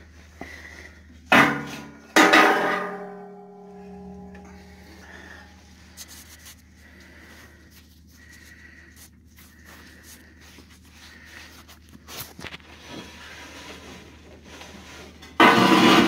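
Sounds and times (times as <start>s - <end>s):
steady low hum: 0.0s - 15.5s.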